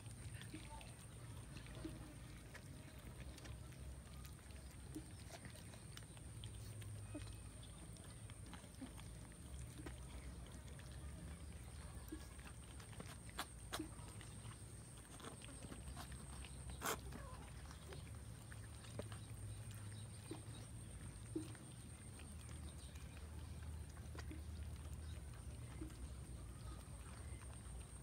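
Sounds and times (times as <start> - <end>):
cats chewing: 0.0 - 28.0.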